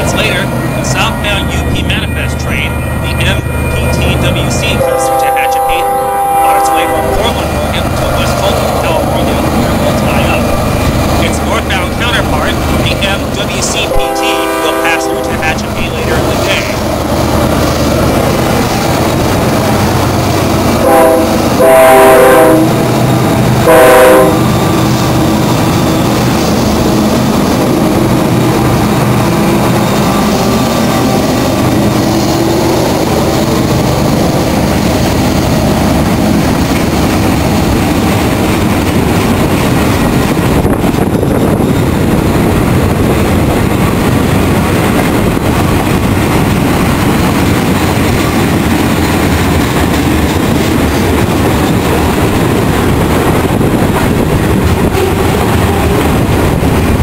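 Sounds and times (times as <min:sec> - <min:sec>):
diesel locomotive drone: 0:00.0 - 0:57.0.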